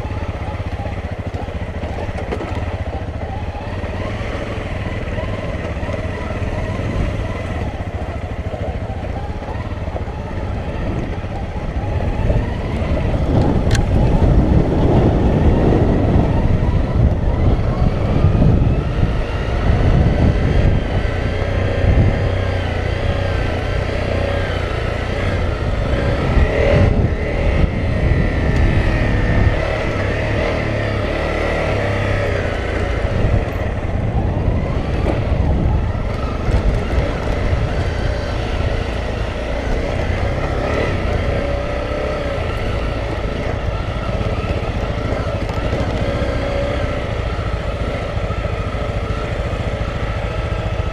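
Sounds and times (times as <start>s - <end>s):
low wind rumble: 0.0s - 50.9s
motorcycle engine revving: 0.0s - 50.9s.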